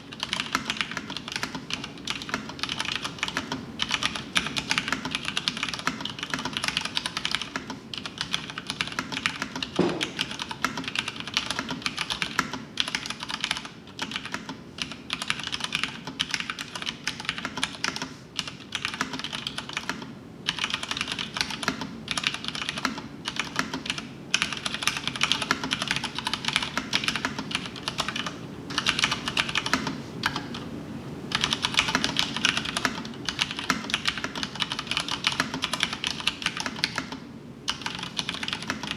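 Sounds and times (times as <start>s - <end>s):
mechanical keyboard typing: 0.1s - 30.7s, 31.3s - 38.9s.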